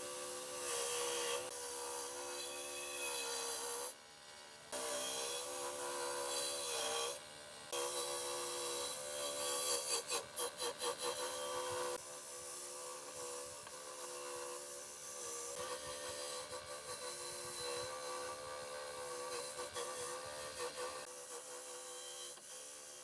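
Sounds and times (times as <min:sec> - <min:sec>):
small motor running: 0:00.0 - 0:23.0.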